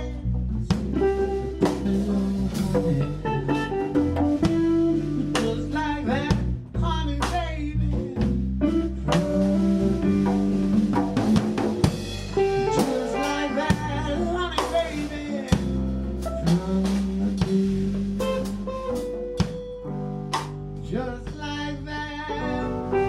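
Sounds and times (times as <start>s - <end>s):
drum kit: 0.0s - 23.0s
electric guitar: 0.0s - 23.0s.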